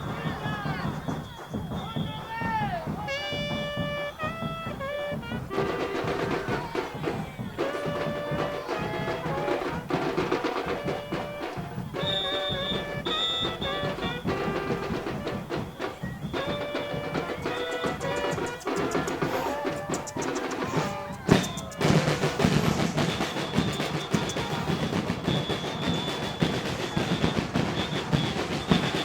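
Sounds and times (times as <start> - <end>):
drumming and percussion: 0.0 - 29.0
brass melody: 2.9 - 26.8.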